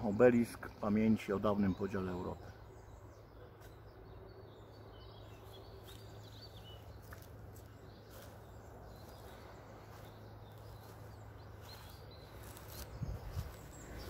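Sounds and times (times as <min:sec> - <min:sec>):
high bird chirps: 0:01.6 - 0:14.0.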